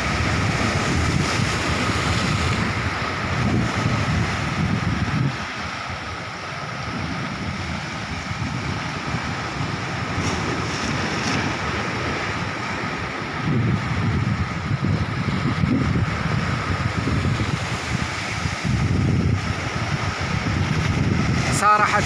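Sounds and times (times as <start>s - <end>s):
sea surf washing: 0.0s - 22.0s
wind buffeting microphone: 0.0s - 22.0s.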